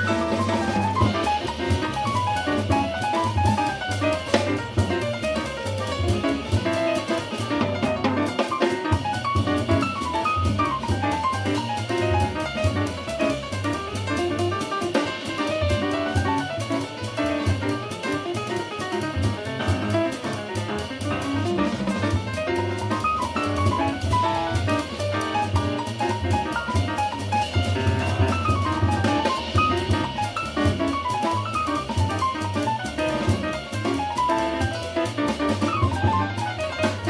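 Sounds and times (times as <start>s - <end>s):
drum kit with cymbals: 0.0s - 37.0s
grand piano playing quick runs: 0.0s - 37.0s
walking upright bass: 0.0s - 37.0s.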